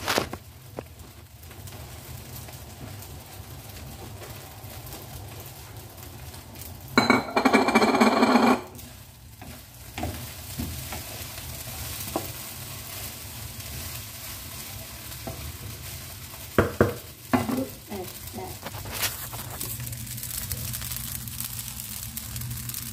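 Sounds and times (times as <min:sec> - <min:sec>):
rice sizzling in a wok: 0:00.0 - 0:22.9.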